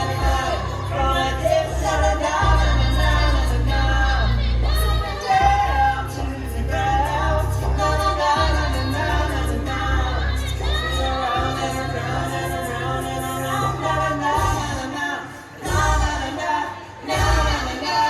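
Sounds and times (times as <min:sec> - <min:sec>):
small choir singing in harmony: 0:00.0 - 0:18.0.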